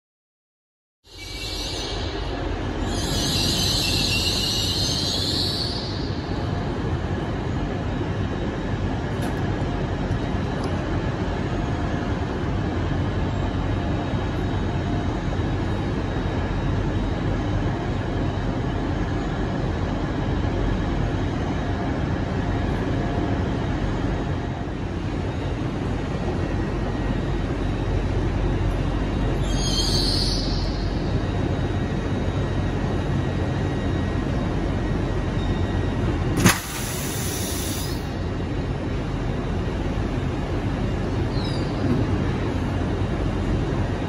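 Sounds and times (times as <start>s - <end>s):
faint steady whine: 1.2s - 44.0s.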